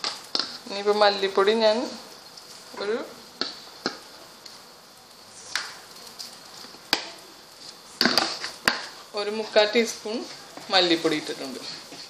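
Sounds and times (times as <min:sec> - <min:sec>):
oil sizzling softly: 0:00.0 - 0:12.0.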